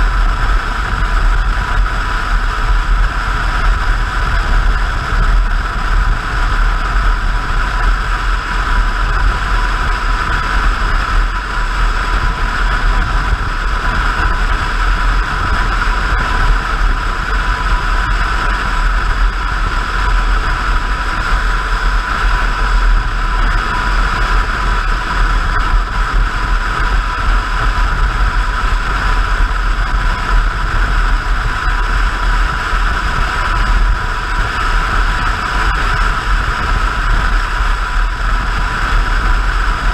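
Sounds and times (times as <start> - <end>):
motorcycle engine and tyres droning: 0.0 - 39.9
wind buffeting microphone: 0.0 - 39.9.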